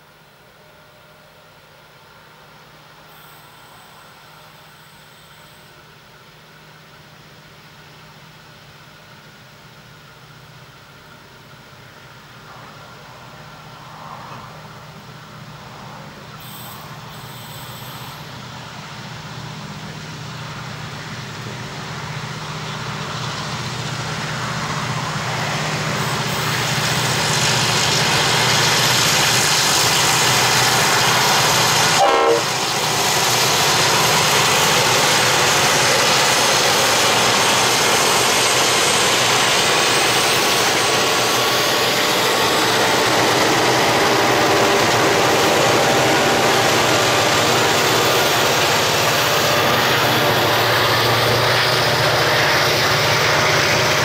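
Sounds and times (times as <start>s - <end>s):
diesel locomotives working: 0.0s - 54.0s
wagons rumbling on rails: 9.9s - 54.0s.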